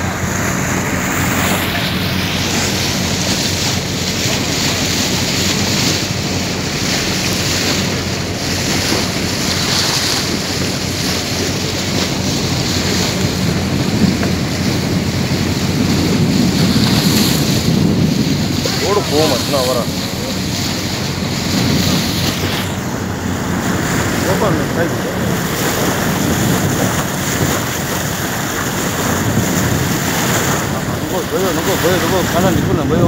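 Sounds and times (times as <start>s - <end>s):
low engine hum: 0.0s - 33.0s
water rushing along boat hull: 0.0s - 33.0s
wind buffeting microphone: 0.0s - 33.0s.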